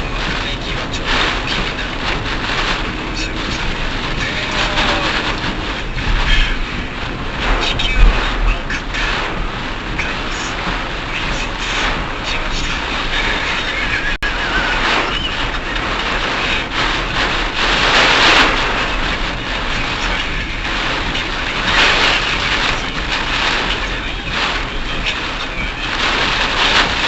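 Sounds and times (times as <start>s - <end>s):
car road noise in wind and rain: 0.0s - 27.0s.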